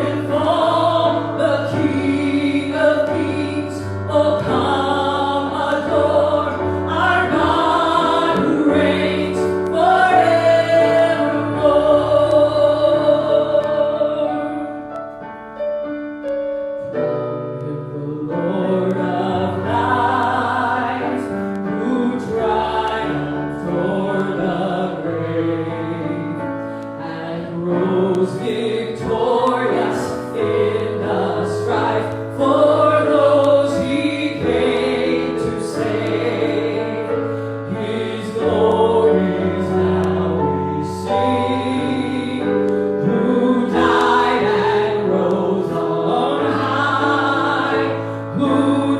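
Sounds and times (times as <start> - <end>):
voices singing slow song: 0.0 - 15.0, 17.7 - 48.9
keyboard chords: 0.0 - 48.9.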